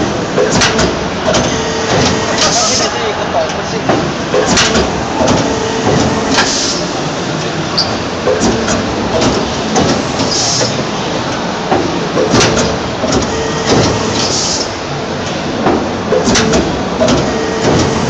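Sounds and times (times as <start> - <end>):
hydraulic machine noise: 0.0 - 18.0
sharp machine clunk: 0.4 - 2.9, 3.9 - 6.9, 8.2 - 10.8, 11.4 - 18.0.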